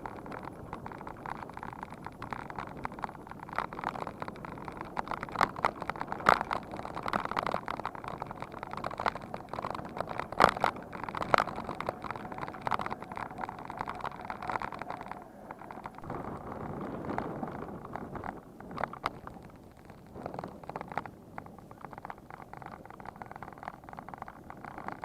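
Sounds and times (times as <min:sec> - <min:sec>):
bicycle rattling over rough ground: 0:00.0 - 0:25.0.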